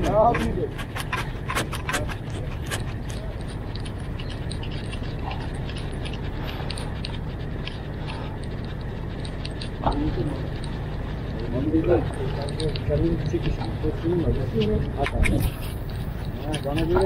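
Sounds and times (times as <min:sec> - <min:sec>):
light clicks and ticks: 0:00.0 - 0:17.0
steady low rumble: 0:00.0 - 0:17.0.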